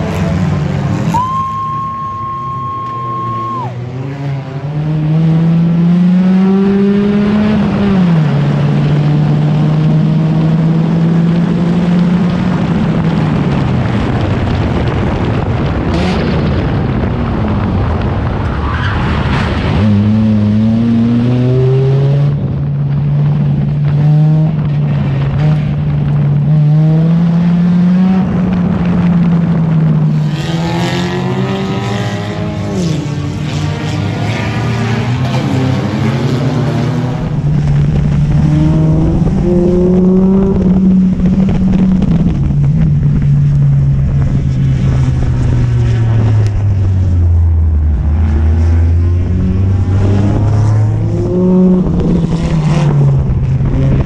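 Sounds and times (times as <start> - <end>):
race car engine revving: 0.0 - 18.5, 19.1 - 54.0.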